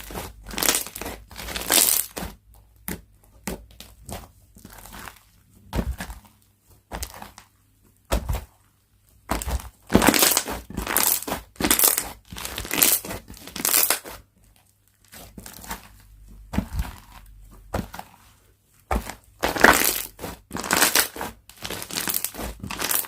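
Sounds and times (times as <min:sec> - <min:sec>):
slime squelching: 0:00.0 - 0:23.0.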